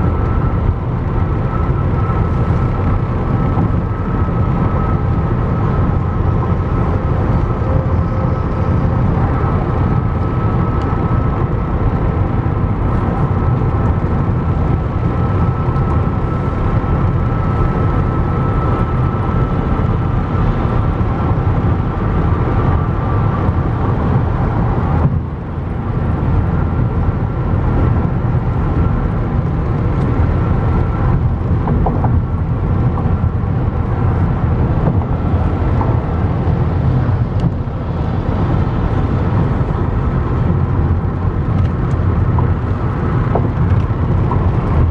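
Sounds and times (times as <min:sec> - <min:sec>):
faint steady whine: 0:00.0 - 0:44.9
tyre and engine rumble in car: 0:00.0 - 0:44.9.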